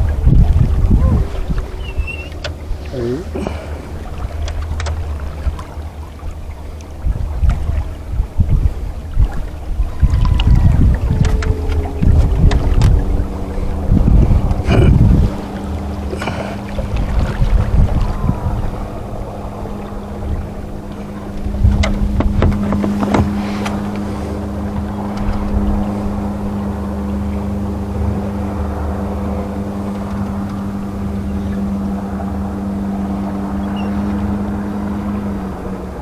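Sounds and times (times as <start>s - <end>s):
boat motor humming: 0.0s - 36.0s.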